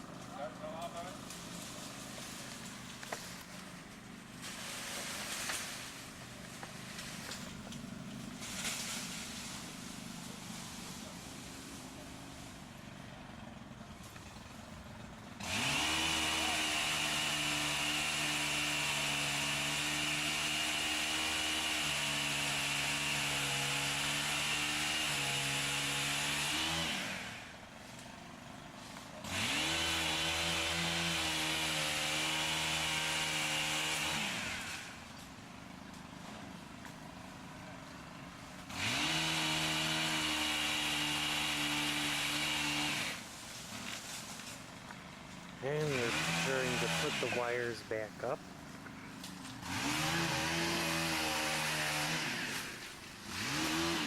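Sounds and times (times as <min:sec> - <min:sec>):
chainsaw revving: 0:04.4 - 0:35.3, 0:36.0 - 0:54.0.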